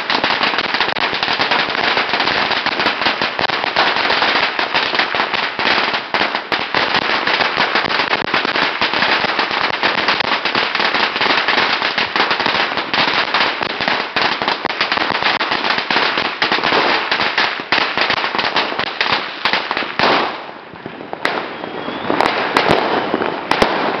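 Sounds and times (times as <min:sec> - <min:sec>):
firecrackers cracking: 0:00.0 - 0:24.0
loud firecracker bangs: 0:00.0 - 0:24.0.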